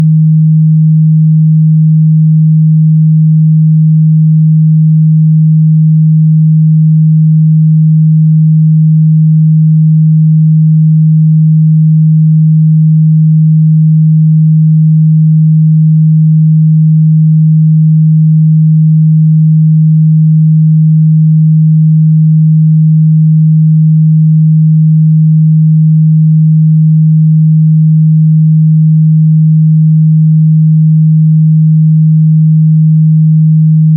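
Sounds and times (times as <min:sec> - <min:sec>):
low sine-wave test tone: 0:00.0 - 0:33.9.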